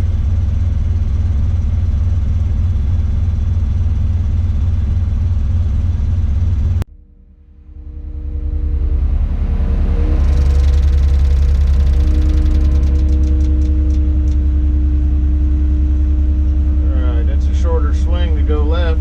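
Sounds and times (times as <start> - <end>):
crane engine rumbling: 0.0 - 19.0.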